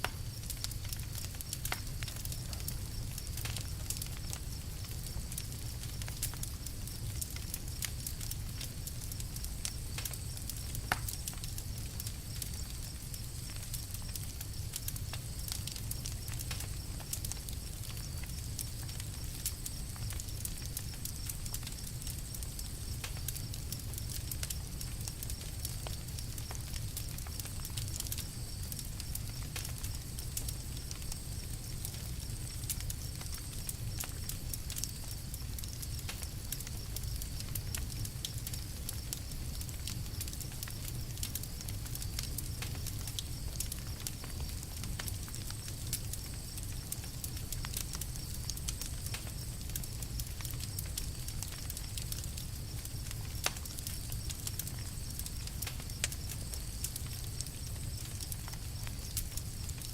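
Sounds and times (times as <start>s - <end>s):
campfire pops and snaps: 0.0s - 59.9s.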